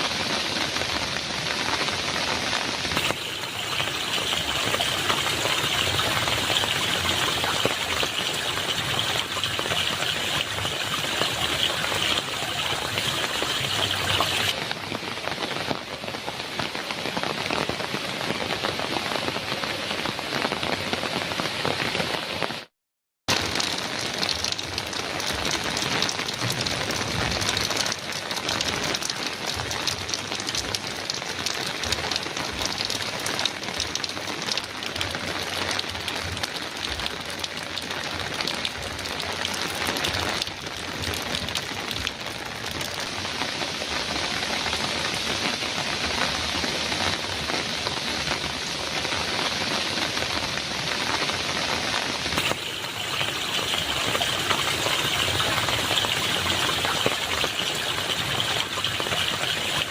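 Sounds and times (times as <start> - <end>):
heavy rain on a metal roof: 0.0 - 22.7, 23.3 - 59.9.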